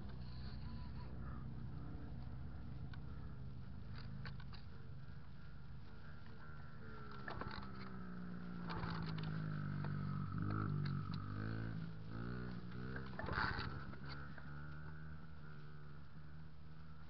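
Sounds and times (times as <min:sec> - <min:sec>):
small motorbike engine revving: 0:00.0 - 0:05.2, 0:06.1 - 0:17.0.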